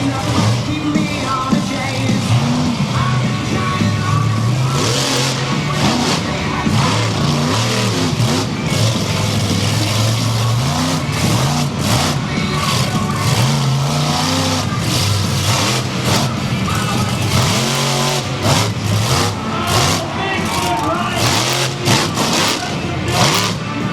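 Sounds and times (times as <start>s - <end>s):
monster truck engine revving: 0.0s - 23.9s.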